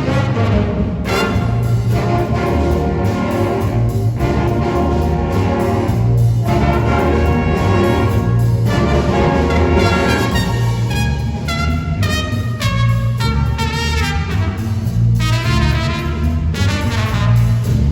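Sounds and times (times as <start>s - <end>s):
orchestral brass music: 0.0s - 17.9s.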